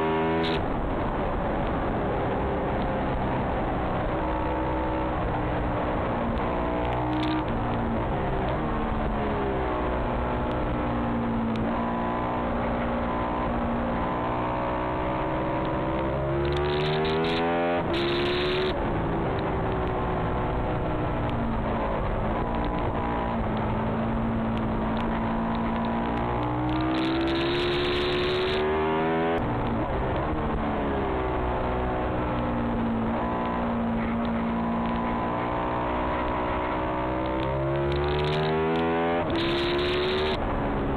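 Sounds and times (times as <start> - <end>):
motorcycle engine revving: 1.7 - 40.9.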